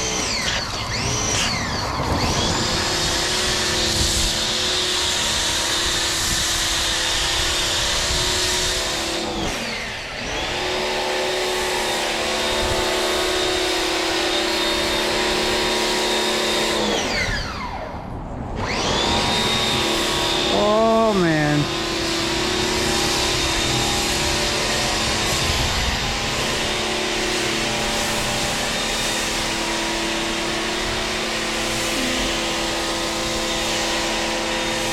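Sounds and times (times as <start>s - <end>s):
pressure washer motor whining: 0.0s - 34.9s.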